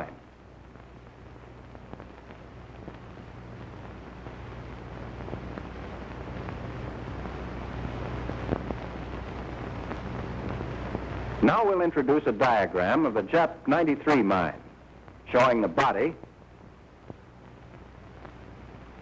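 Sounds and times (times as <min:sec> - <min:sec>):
faint crackles: 0:00.0 - 0:19.0
film soundtrack hiss: 0:00.0 - 0:19.0.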